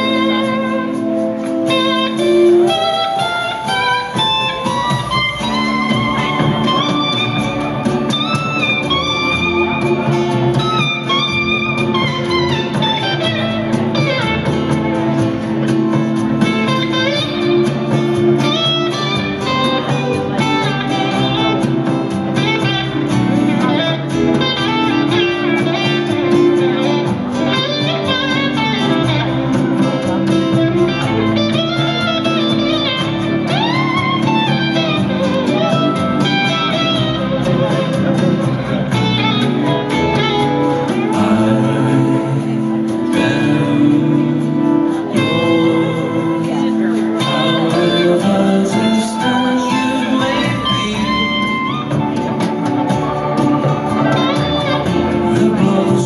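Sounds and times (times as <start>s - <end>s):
electric slide guitar solo: 0.0s - 56.0s
strummed acoustic guitar: 0.0s - 56.0s.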